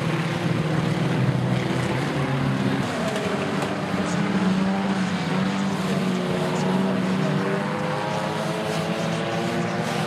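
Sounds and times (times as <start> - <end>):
racing car engines: 0.0 - 10.0.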